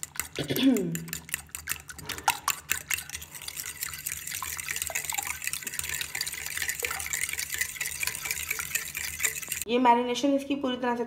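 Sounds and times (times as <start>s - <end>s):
fork ticking against glass: 0.0s - 9.7s
liquid sloshing in bowl: 0.0s - 9.7s.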